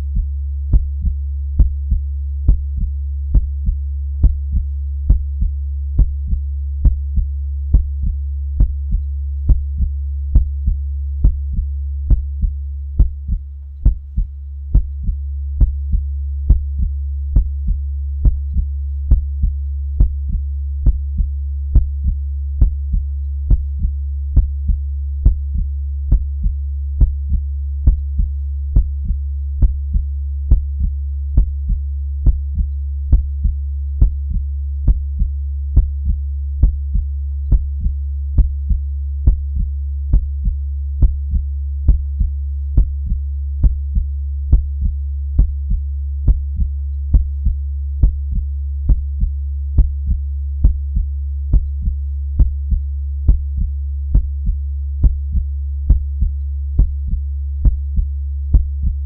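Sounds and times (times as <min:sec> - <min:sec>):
heartbeat: 0:00.0 - 0:59.0
low hum: 0:00.0 - 0:59.0.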